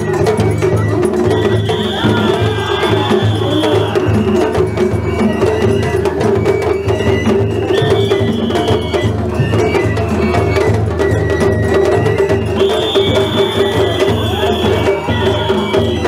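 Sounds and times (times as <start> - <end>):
high flute melody: 0.0 - 16.0
taiko drum beats: 0.0 - 16.0.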